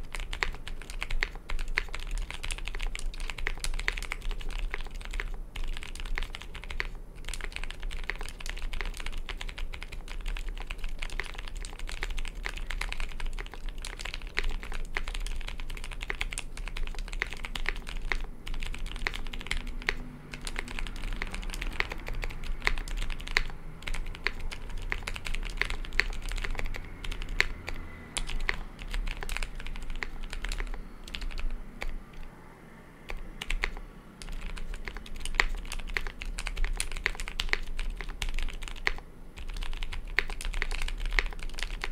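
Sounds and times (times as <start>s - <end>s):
typing on mechanical keyboard: 0.0s - 32.3s, 33.1s - 41.9s.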